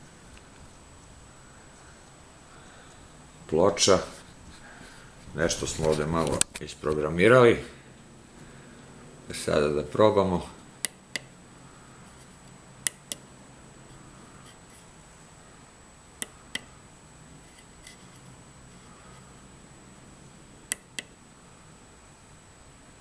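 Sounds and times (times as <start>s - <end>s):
faint electrical hum: 0.0s - 23.0s
thin high whine: 0.0s - 23.0s.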